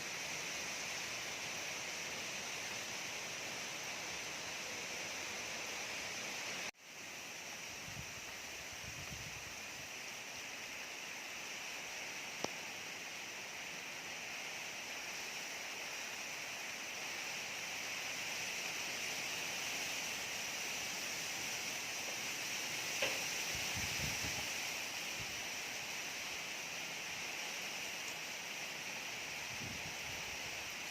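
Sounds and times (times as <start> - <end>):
rain and wind hiss: 0.0 - 30.9.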